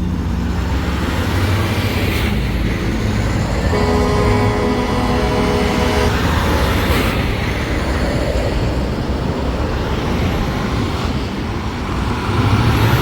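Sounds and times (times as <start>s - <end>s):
trucks driving past: 0.0s - 13.0s.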